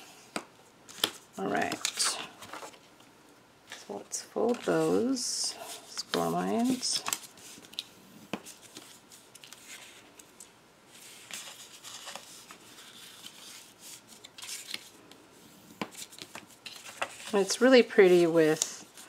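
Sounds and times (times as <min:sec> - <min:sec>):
paper folding rustles: 0:00.2 - 0:02.9, 0:03.7 - 0:19.0.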